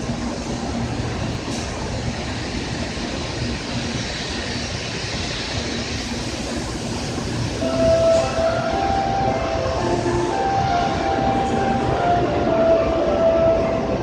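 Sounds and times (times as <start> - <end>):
rumbling train: 0.0 - 14.0.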